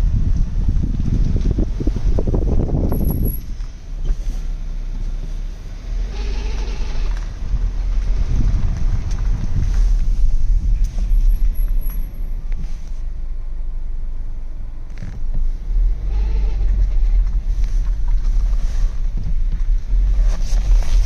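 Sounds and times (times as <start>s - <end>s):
car drivetrain rumble: 0.0s - 21.0s.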